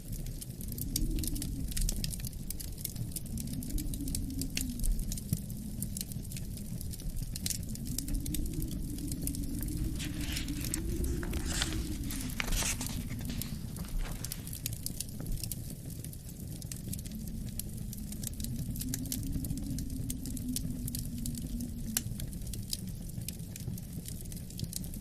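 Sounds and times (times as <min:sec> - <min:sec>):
wood fire crackling: 0:00.0 - 0:25.0
low wind gusts: 0:00.4 - 0:23.2.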